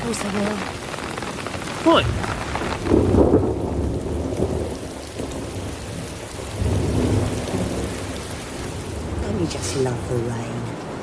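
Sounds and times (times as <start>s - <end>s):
heavy rain falling: 0.0s - 11.0s
rolling thunder: 0.0s - 11.0s.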